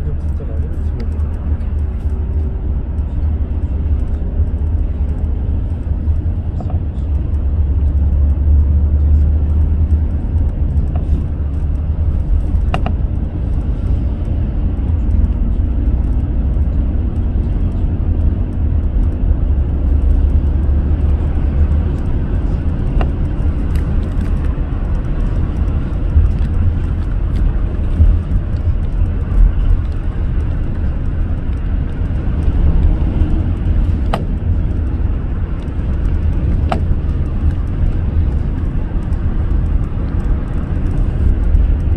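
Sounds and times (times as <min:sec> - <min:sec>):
car driving engine and tyre noise: 0:00.0 - 0:41.9
faint clicks: 0:00.1 - 0:41.9.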